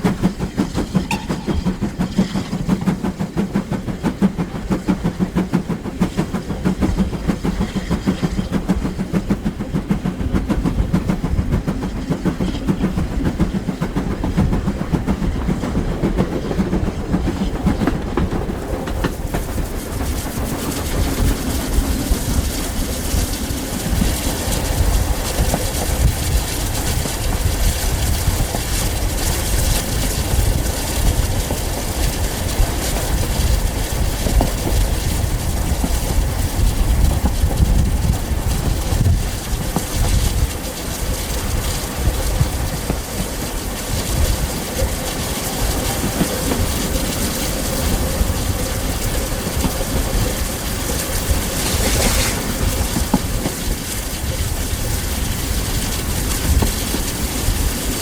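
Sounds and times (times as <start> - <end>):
steam train running: 0.0 - 58.0
wheels clattering over rail joints: 0.0 - 58.0.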